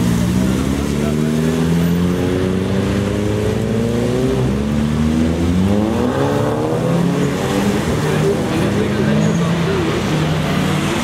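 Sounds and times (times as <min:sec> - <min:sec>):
car engines accelerating: 0:00.0 - 0:11.0.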